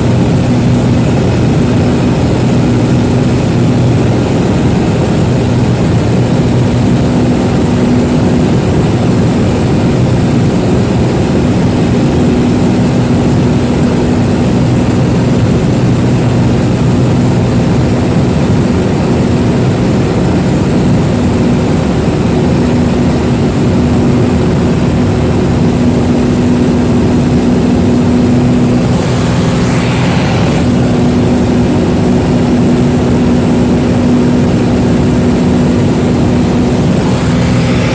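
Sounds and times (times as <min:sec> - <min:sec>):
propeller plane engine drone: 0:00.0 - 0:37.9.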